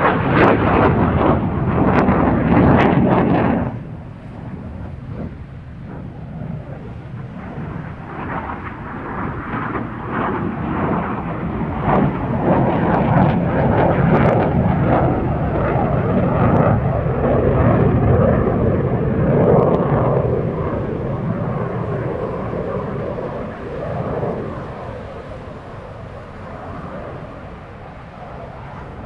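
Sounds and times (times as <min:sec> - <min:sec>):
jet engine rumble overhead: 0:00.0 - 0:29.0.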